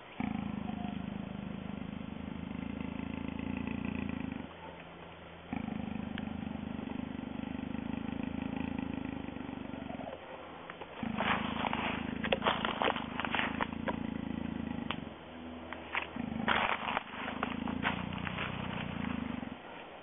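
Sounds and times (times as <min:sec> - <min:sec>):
jaguar growling: 0:00.0 - 0:20.0.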